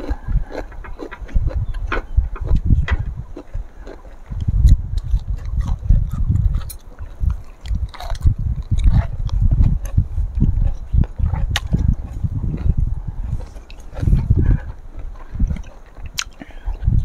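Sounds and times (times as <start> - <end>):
low rumble: 0.0 - 17.0
people chewing and crunching: 0.0 - 17.0.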